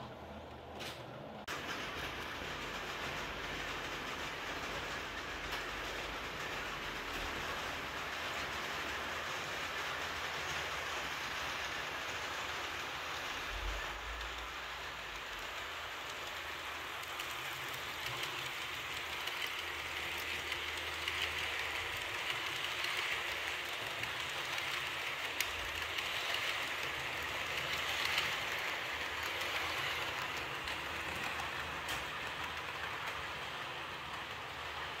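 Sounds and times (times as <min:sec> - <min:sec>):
model train wheels rolling: 0:00.0 - 0:35.0.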